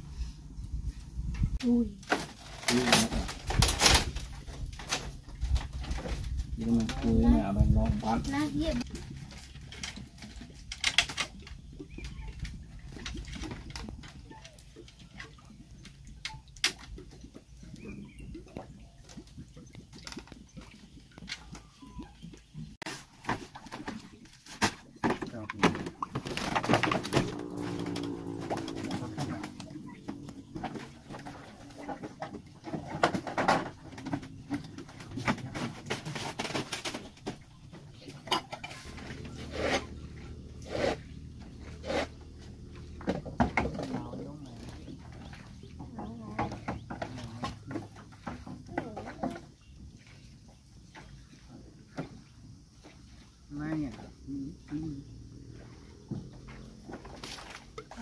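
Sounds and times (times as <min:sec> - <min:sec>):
bamboo poles creaking and knocking: 0:00.9 - 0:58.0.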